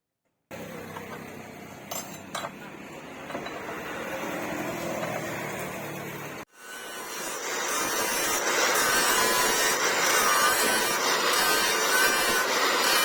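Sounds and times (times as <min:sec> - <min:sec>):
workshop machine hum: 0:00.5 - 0:13.0.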